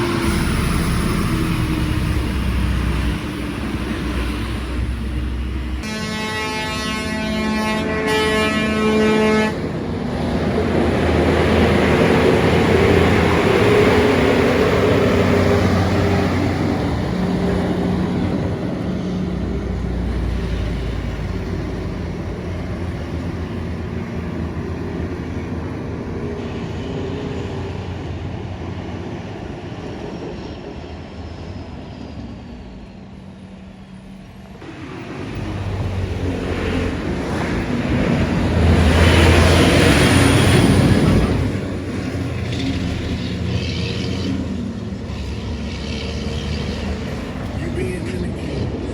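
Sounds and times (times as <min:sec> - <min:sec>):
vehicle approaching: 0:00.0 - 0:29.3, 0:32.4 - 0:48.9
heavy trucks passing: 0:00.0 - 0:30.2, 0:31.0 - 0:48.9.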